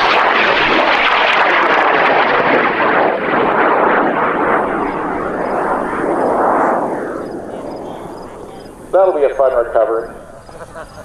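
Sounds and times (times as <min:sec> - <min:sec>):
rocket motor roaring: 0:00.0 - 0:10.5.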